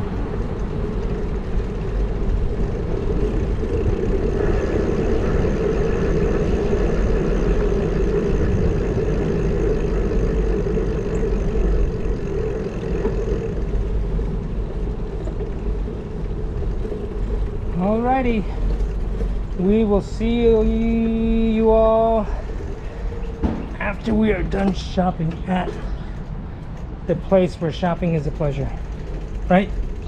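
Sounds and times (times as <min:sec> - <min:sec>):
road noise: 0:00.0 - 0:30.0
vehicle engine humming: 0:00.0 - 0:30.0
wind rumble: 0:00.0 - 0:30.0.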